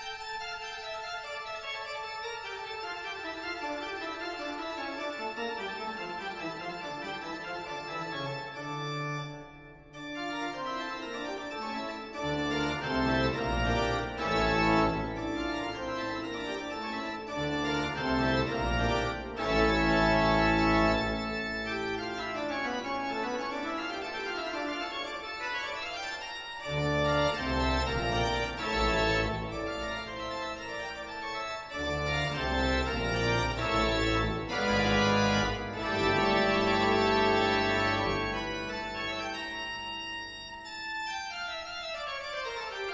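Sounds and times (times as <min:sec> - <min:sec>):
organ playing sustained chords: 0:00.0 - 0:42.9.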